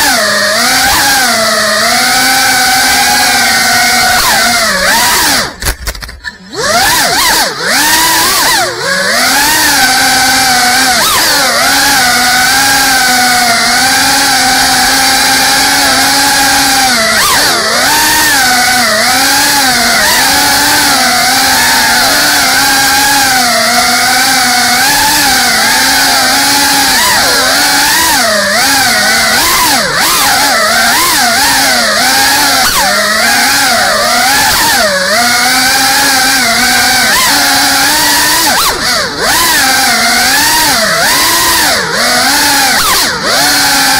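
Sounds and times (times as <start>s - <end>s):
drone motors buzzing: 0.0s - 43.9s.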